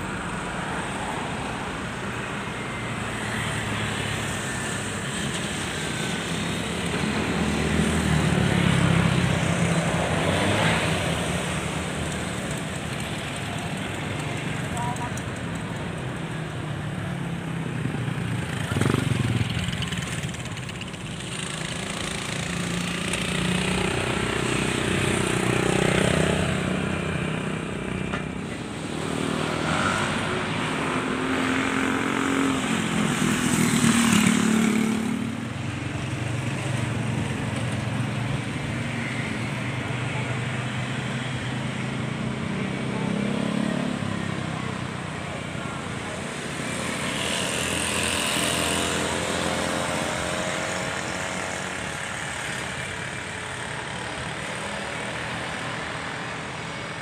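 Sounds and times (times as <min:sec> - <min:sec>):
passing vehicle engines: 0:00.0 - 0:57.0.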